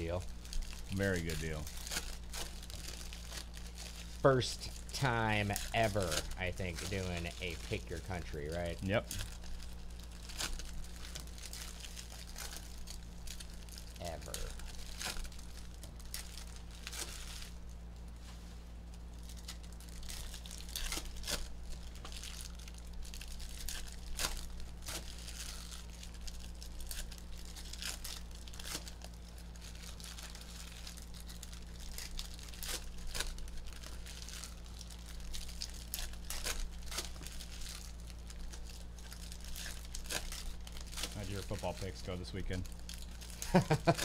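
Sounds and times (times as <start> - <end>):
foil wrappers tearing and crinkling: 0.0 - 18.1, 18.8 - 44.0.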